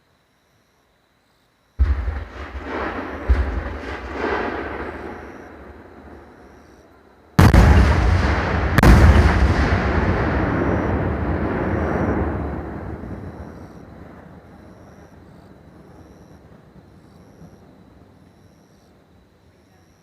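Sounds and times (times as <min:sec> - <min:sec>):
fireworks booming: 0:01.8 - 0:18.4
rolling rumble of fireworks: 0:01.8 - 0:20.0.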